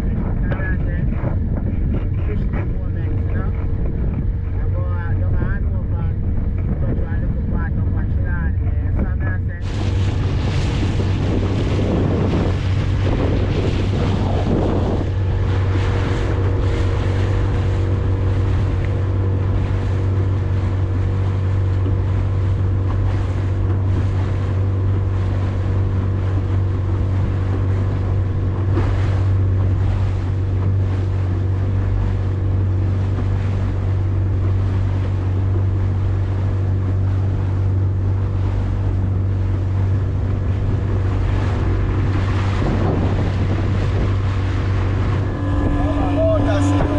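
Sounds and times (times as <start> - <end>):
boat motor running: 0.0 - 46.9
water rushing: 0.0 - 46.9
wind buffeting microphone: 0.0 - 46.9.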